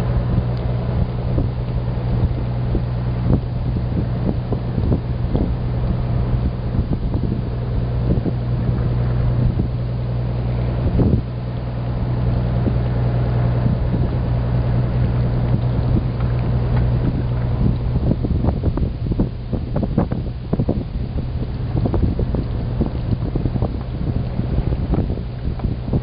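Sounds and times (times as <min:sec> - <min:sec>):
boat motor humming: 0:00.0 - 0:26.0
wind buffeting microphone: 0:00.0 - 0:26.0.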